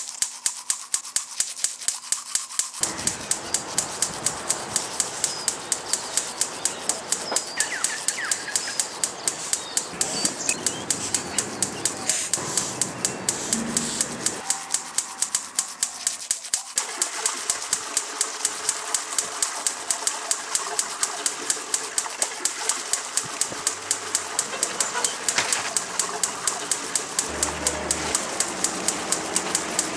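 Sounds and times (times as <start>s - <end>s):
steady ticking: 0.0s - 29.9s.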